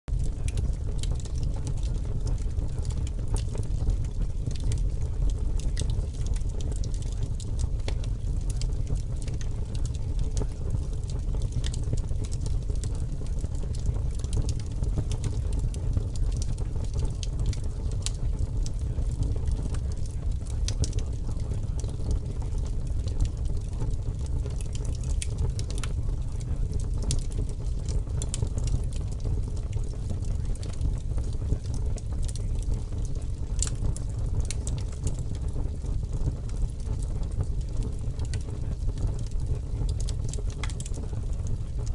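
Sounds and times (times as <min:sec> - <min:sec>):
continuous low rumble: 0:00.1 - 0:41.9
sharp crackles: 0:00.1 - 0:41.9.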